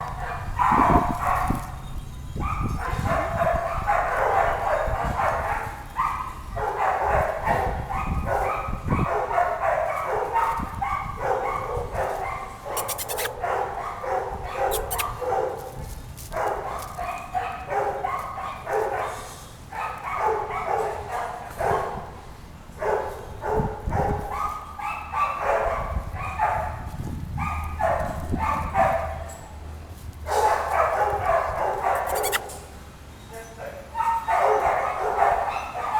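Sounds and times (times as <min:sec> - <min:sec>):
dog barking: 0:00.0 - 0:01.8, 0:02.4 - 0:22.2, 0:22.8 - 0:29.6, 0:30.2 - 0:32.7, 0:34.0 - 0:35.9.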